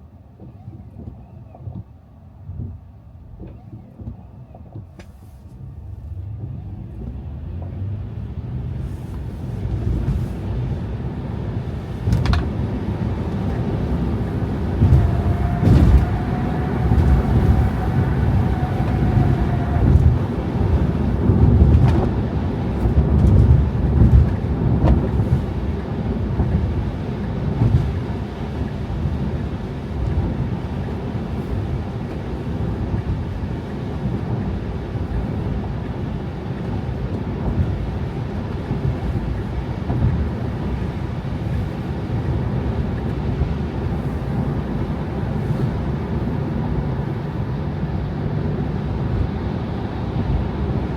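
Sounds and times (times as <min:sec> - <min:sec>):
car driving on snow: 0:04.9 - 0:50.9.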